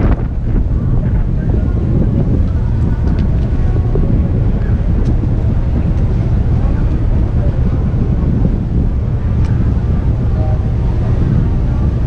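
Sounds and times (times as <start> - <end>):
ferry engine rumble: 0.0 - 12.0
wind buffeting microphone: 0.0 - 12.0.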